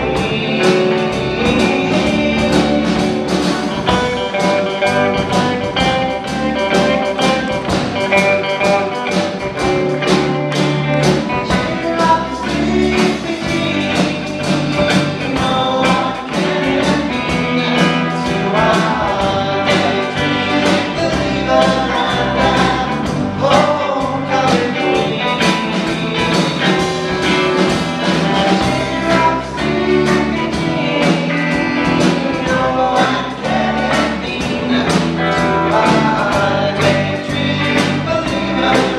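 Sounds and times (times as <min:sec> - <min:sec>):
bass guitar: 0:00.0 - 0:38.9
drum kit beat: 0:00.0 - 0:38.9
electric guitars: 0:00.0 - 0:38.9
man singing: 0:00.0 - 0:38.9.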